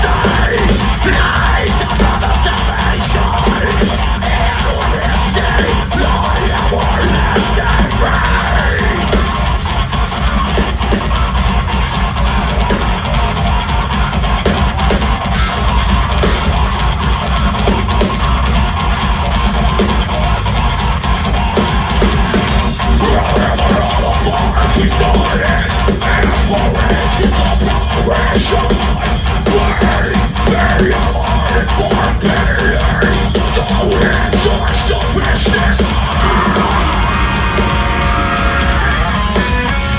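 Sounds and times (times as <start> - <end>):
distorted electric guitars: 0.0 - 39.9.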